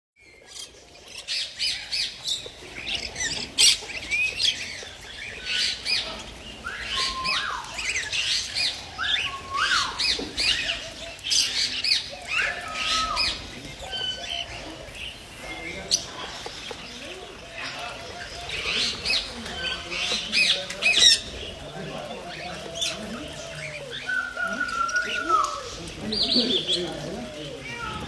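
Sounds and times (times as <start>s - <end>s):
birds chirping and squawking: 0.2s - 28.0s.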